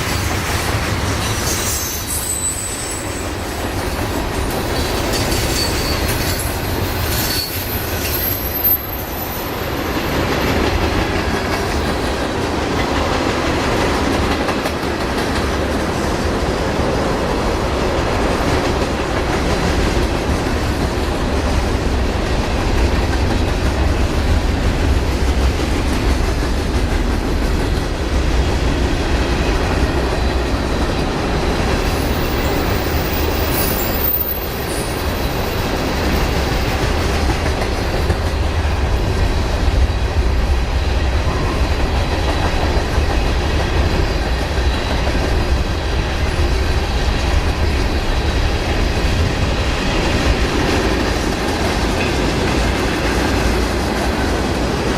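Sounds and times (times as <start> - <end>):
train wheels rolling on rails: 0.0 - 54.9.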